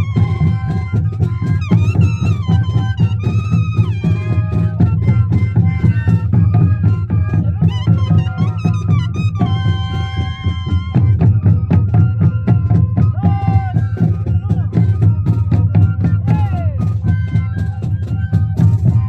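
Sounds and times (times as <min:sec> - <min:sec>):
cane flutes playing melody: 0:00.0 - 0:19.0
heavy drumming: 0:00.0 - 0:19.0.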